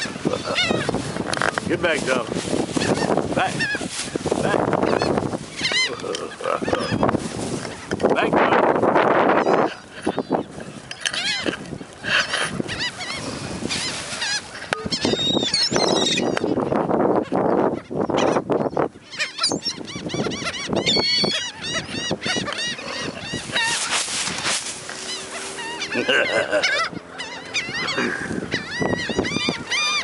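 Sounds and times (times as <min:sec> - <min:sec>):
gulls calling: 0:00.0 - 0:30.0.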